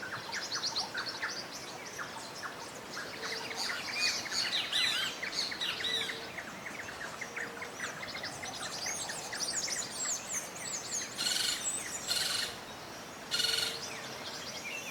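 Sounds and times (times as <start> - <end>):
songbirds chirping and singing: 0.0 - 14.9.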